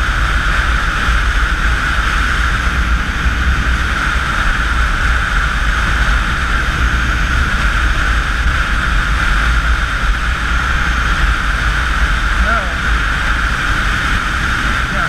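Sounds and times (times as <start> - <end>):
motorcycle running: 0.0 - 15.0
wind roar on microphone: 0.0 - 15.0.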